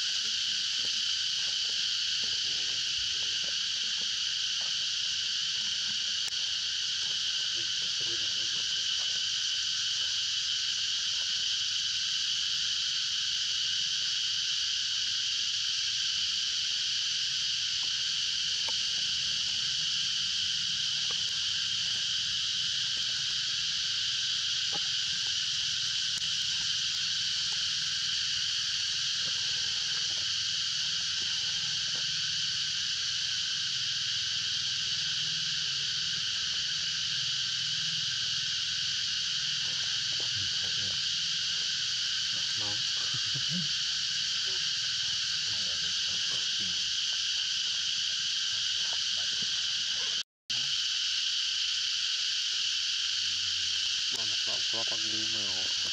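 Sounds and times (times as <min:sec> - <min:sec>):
insects buzzing: 0:00.0 - 0:55.9.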